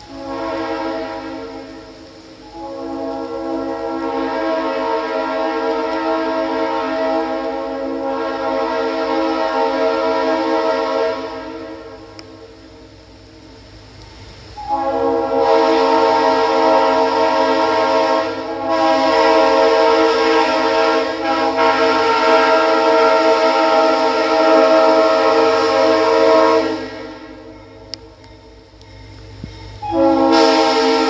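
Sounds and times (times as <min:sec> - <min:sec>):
locomotive air horn chord: 0:00.0 - 0:13.0, 0:14.5 - 0:31.0.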